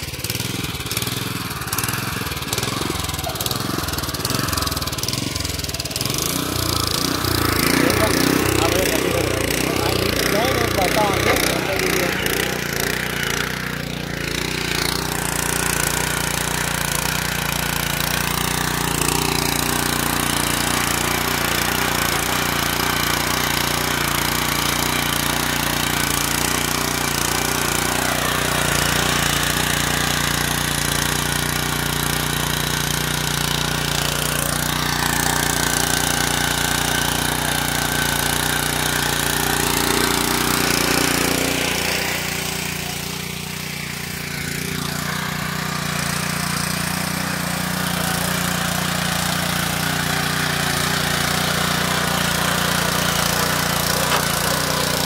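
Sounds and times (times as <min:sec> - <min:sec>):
tiller engine running under load: 0:00.0 - 0:55.0
tines churning through soil: 0:00.0 - 0:55.0.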